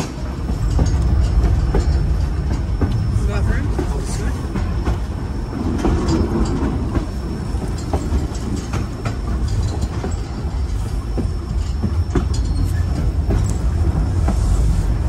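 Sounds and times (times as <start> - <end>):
train cars rumbling: 0.0 - 15.0
wheels clicking on rails: 0.0 - 15.0.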